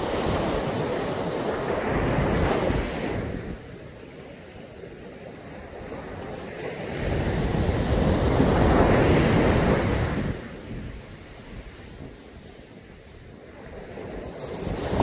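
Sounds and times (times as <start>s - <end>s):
sea waves breaking on a beach: 0.0s - 15.0s.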